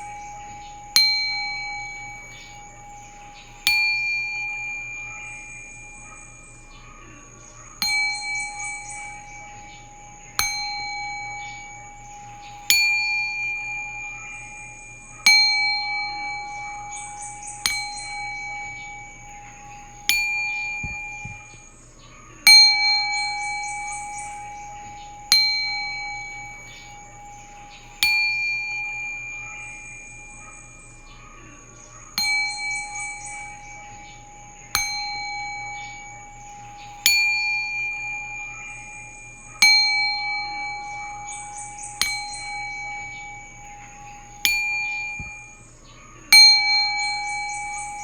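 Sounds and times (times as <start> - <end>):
singing bowl struck with mallet: 0.0 - 21.8, 22.4 - 48.0.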